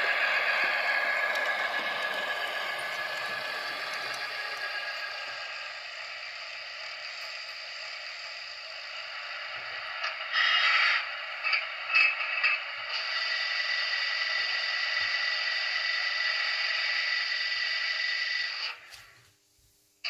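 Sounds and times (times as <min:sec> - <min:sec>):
faint whine: 0:00.0 - 0:17.0
model locomotive engine sound: 0:00.0 - 0:19.2.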